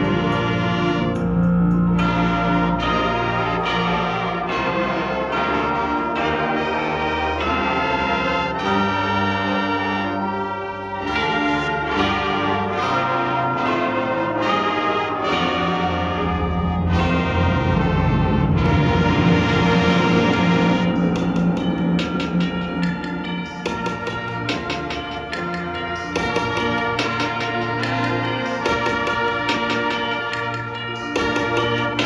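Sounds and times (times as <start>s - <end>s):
wind ensemble playing chords: 0.0s - 32.0s.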